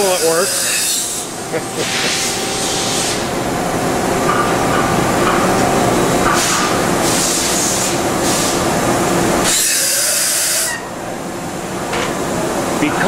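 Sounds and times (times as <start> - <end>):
machine humming and whining: 0.0 - 13.0.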